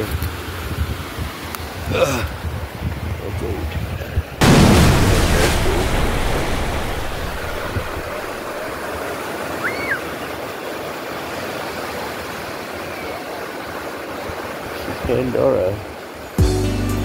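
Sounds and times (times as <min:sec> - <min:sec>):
surf washing on a beach: 0:00.0 - 0:16.4.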